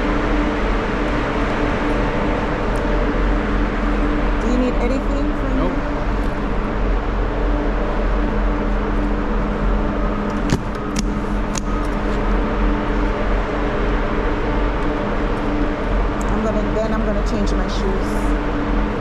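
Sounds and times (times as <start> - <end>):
machinery drone: 0.0 - 19.0.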